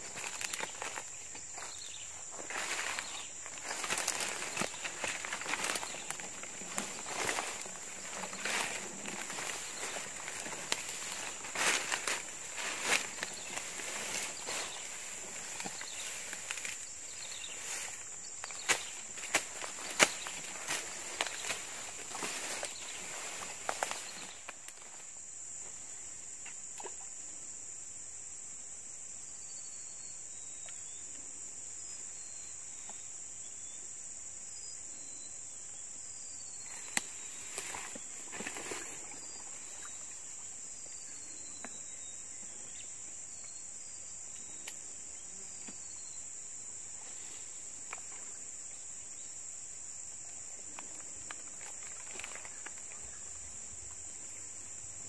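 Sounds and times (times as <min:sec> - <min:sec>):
insect chorus drone: 0:00.0 - 0:55.0.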